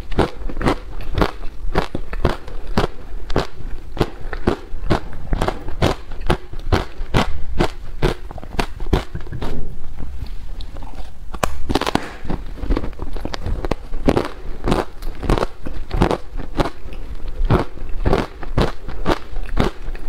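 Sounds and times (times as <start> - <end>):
ice being bitten and chewed: 0.0 - 9.6, 10.2 - 20.0.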